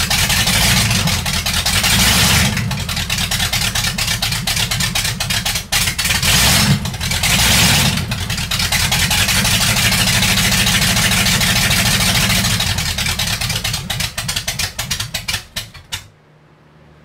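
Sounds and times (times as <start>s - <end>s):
loud car engine revving and idling: 0.0s - 16.0s.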